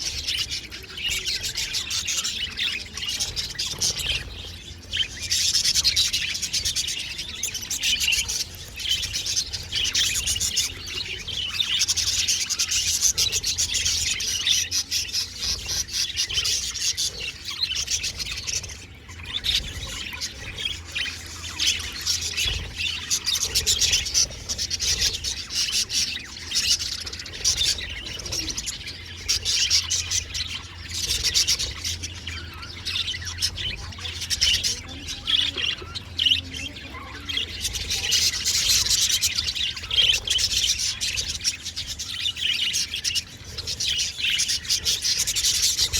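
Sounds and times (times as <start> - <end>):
budgies chirping and warbling: 0.0 - 45.9.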